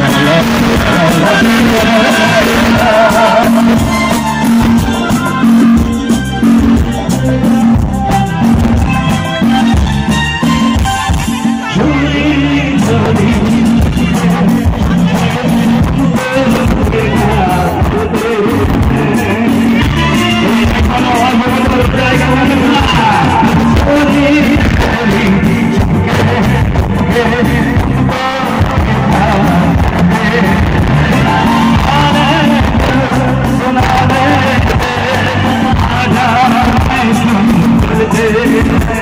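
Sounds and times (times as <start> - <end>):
live band with singer: 0.0 - 39.0.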